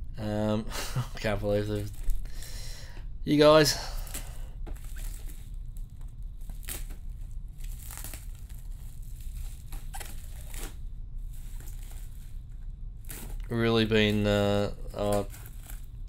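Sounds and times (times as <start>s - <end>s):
steady low hum: 0.0s - 16.0s
bubble wrap crinkling and tearing: 1.2s - 2.7s, 3.6s - 16.0s.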